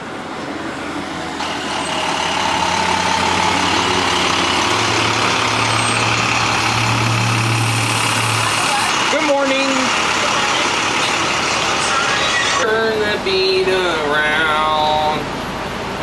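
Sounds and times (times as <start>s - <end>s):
bus engine humming: 0.0s - 16.0s.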